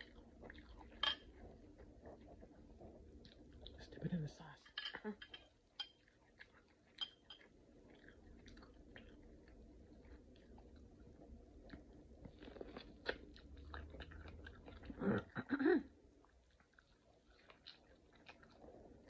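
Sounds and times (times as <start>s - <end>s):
person chewing food: 0.0s - 4.1s, 5.0s - 19.0s.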